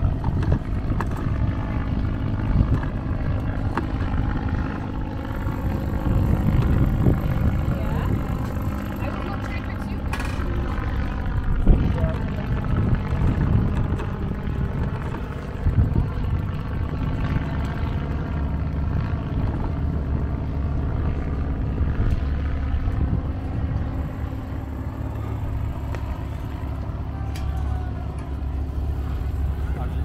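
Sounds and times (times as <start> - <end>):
wind buffeting microphone: 0.0 - 27.1.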